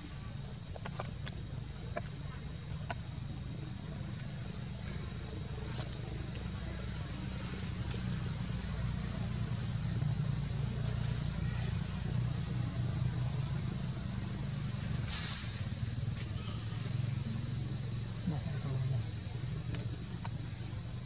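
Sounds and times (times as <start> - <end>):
high-pitched insect drone: 0.0 - 21.0
low steady rumble: 0.0 - 21.0.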